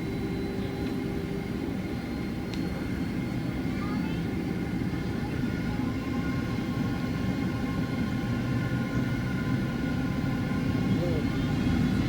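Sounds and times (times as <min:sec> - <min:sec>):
jet engines rumbling in cabin: 0:00.0 - 0:12.0
thin steady whines: 0:00.0 - 0:12.0.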